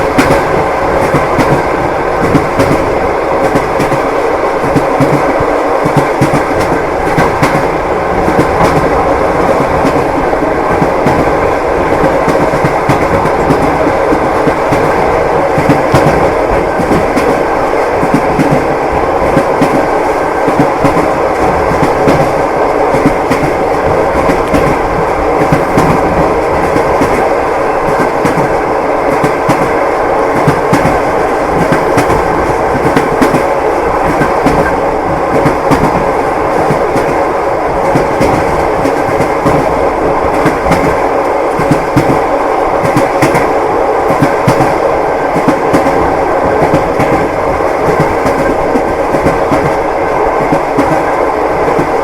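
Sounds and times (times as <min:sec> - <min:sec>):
railway carriage rumble: 0:00.0 - 0:52.0
train wheels clacking: 0:00.0 - 0:52.0.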